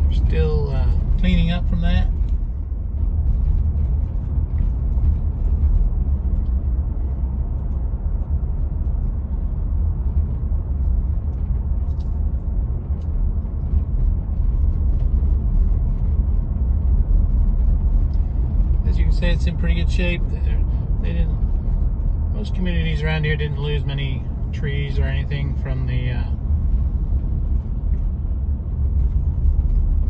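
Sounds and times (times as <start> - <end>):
car tyres and engine rumble: 0.0 - 30.0.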